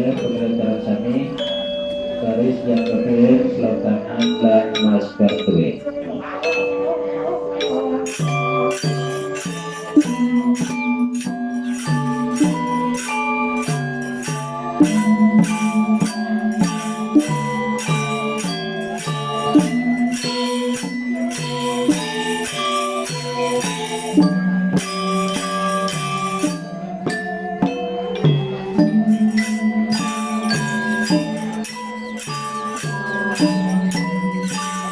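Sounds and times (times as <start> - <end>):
gamelan ensemble playing: 0.0 - 34.9
struck bronze metallophones: 0.0 - 34.9.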